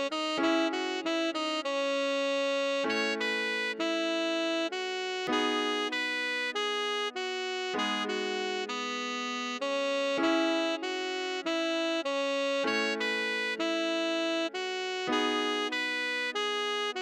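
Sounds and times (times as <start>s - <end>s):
tenor saxophone melody: 0.0s - 17.0s.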